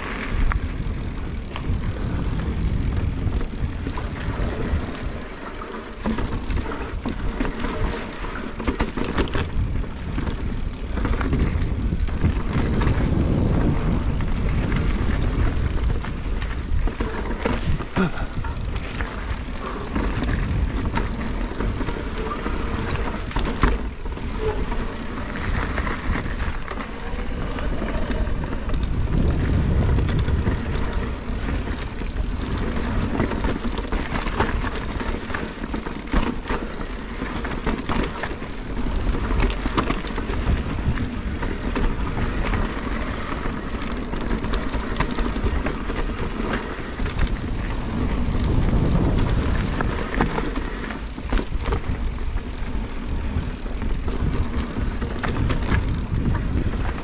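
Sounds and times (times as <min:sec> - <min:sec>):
bike knocking and rattling: 0:00.0 - 0:57.0
bike tyres rolling on dirt: 0:00.0 - 0:57.0
wind rumbling on microphone: 0:00.0 - 0:57.0.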